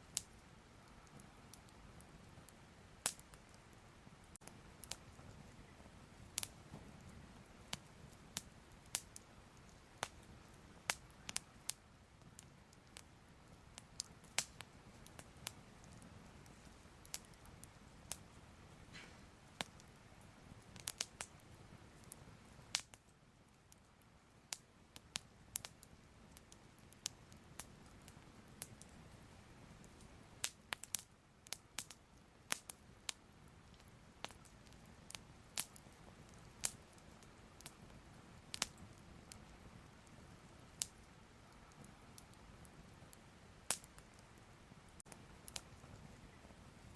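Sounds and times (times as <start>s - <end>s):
fire crackling: 0.0s - 46.9s.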